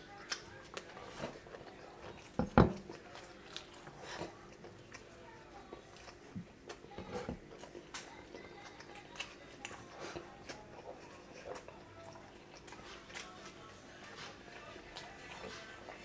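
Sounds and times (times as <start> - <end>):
chewing and lip smacks: 0.1 - 6.9, 7.5 - 16.0.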